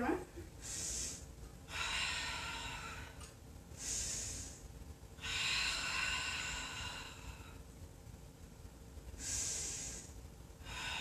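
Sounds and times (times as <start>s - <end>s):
woman breathing deeply: 0.5s - 7.8s, 9.1s - 11.0s
hissing breath: 0.6s - 7.6s, 9.2s - 11.0s.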